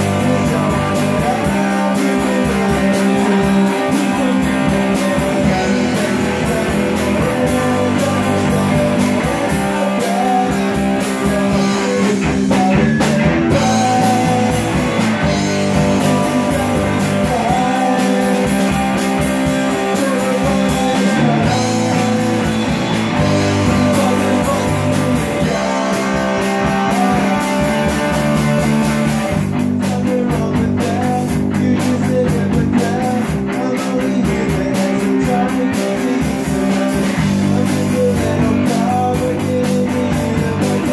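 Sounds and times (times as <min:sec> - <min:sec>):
drum kit: 0:00.0 - 0:40.9
electric bass: 0:00.0 - 0:40.9
electric guitar: 0:00.0 - 0:40.9
person singing: 0:00.0 - 0:40.9.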